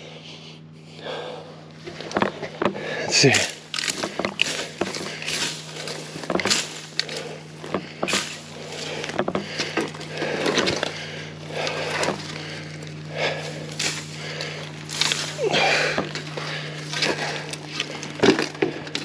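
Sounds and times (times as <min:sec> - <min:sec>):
footsteps through dry brush: 0:03.2 - 0:19.0.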